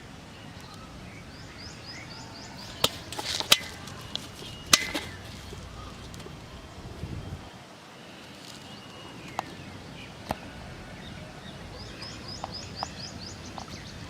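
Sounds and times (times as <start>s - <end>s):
background hiss: 0.0s - 14.0s
bird chirping: 0.4s - 6.4s, 8.0s - 14.0s.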